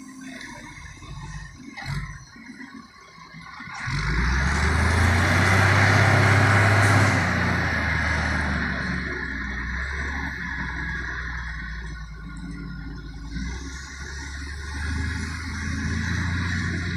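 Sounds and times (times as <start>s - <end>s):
diesel engine revving: 0.0s - 2.5s, 3.4s - 16.9s.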